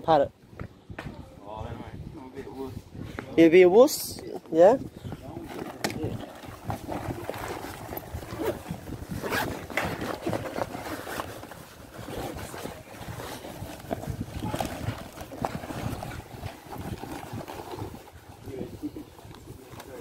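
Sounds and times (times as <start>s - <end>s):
wind: 0.0s - 20.0s.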